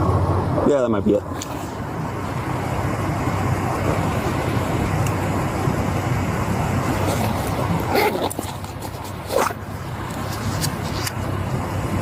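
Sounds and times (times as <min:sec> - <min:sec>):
low engine hum: 0:00.0 - 0:12.0
traffic tyre hiss: 0:01.2 - 0:12.0.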